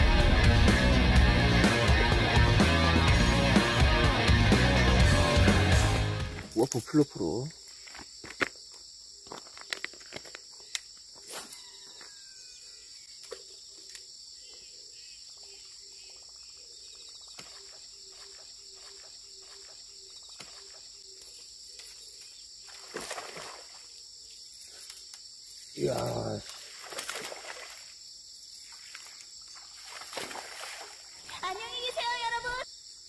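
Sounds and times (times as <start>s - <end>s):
insect chorus: 6.3s - 33.0s.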